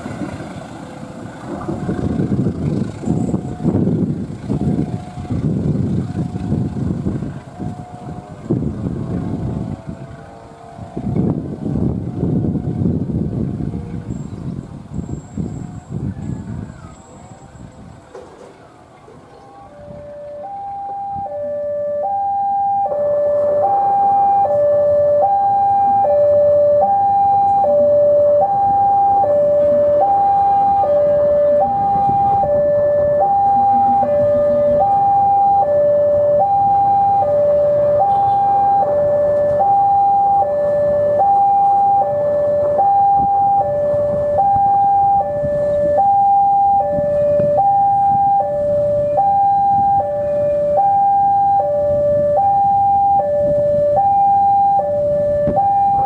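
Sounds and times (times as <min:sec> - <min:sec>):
level crossing alarm wailing: 0:03.0 - 0:12.9, 0:19.4 - 0:56.0.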